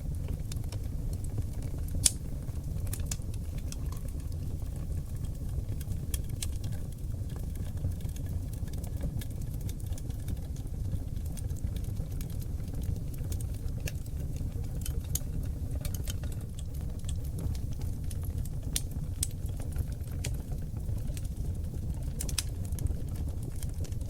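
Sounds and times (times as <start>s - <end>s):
fire crackles and pops: 0.0s - 24.0s
flames roaring low: 0.0s - 24.0s.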